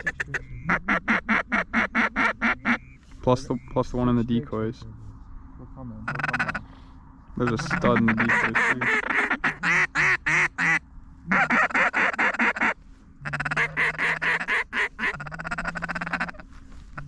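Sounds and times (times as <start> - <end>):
duck call quacking: 0.0 - 3.6, 6.1 - 6.6, 7.4 - 17.0
steady low buzz: 0.0 - 17.0.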